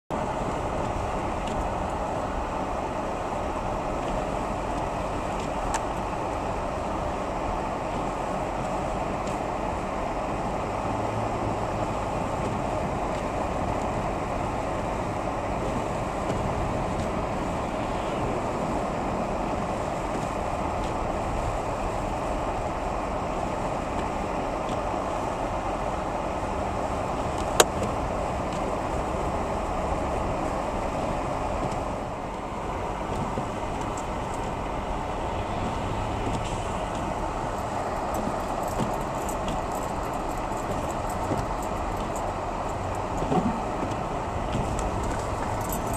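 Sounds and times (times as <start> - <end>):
car road noise: 0.1 - 45.9.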